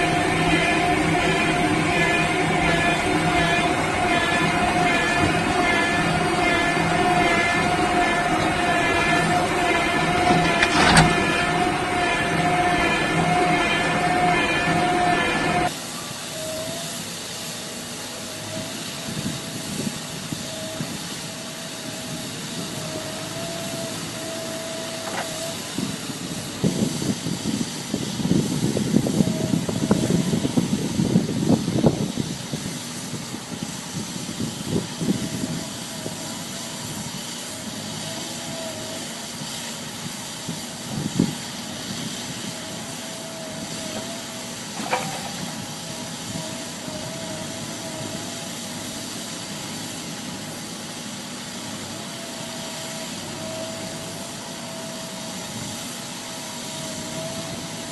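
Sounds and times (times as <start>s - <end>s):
farm machinery hiss and whine: 0.0s - 57.9s.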